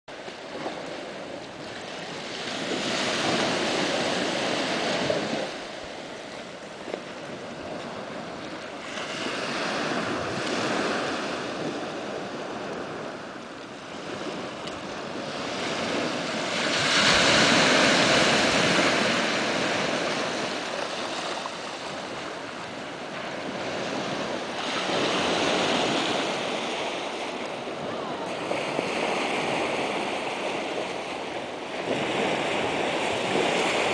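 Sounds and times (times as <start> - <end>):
wind: 0.0 - 33.9
surf washing onto beach: 0.1 - 33.9.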